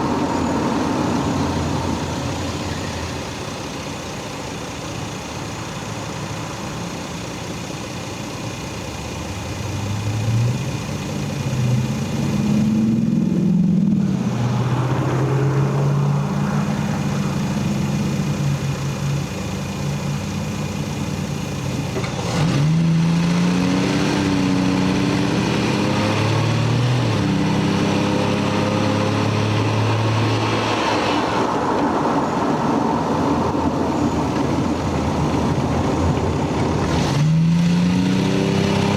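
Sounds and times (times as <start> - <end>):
car engine and exhaust accelerating: 0.0 - 38.9.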